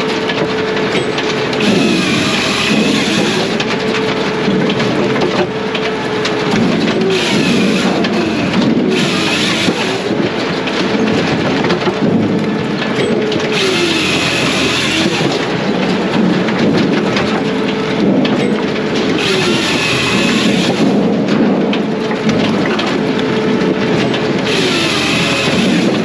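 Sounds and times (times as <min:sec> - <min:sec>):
firewood processor running: 0:00.0 - 0:26.0.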